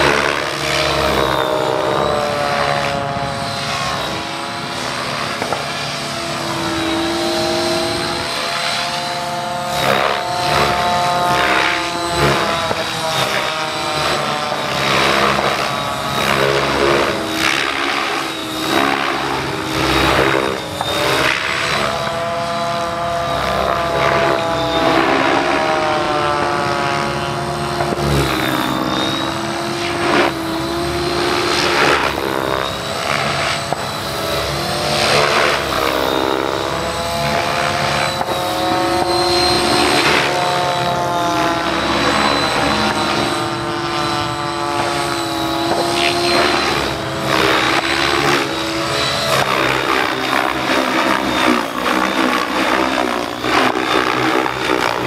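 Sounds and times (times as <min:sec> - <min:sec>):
rotor blades swishing: 0:00.0 - 0:26.0, 0:26.7 - 0:55.0
electric motor whine: 0:00.0 - 0:55.0.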